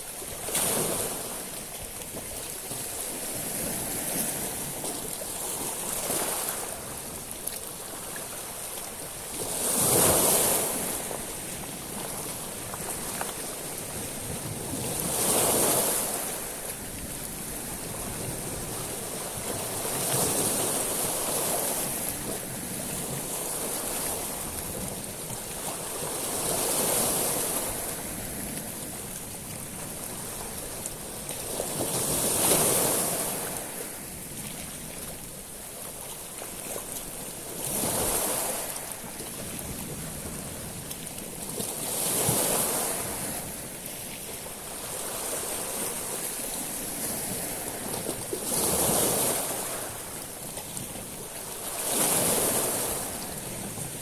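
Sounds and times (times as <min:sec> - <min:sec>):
waves washing on shingle: 0:00.0 - 0:54.0.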